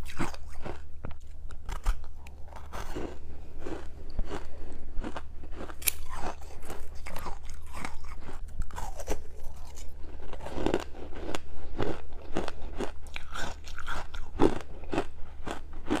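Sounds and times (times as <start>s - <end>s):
close-up chewing wet crunches: 0.0s - 16.0s.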